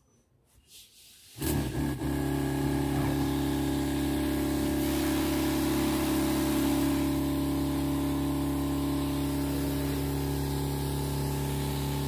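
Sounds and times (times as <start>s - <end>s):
mist hissing from nozzle: 1.0s - 12.0s
sprayer pump humming: 1.4s - 12.0s.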